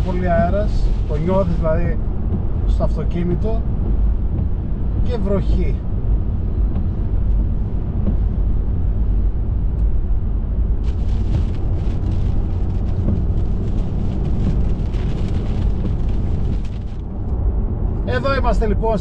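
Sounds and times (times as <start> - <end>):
rain on windscreen: 0.0 - 18.6
road and wind noise in car: 0.0 - 19.0.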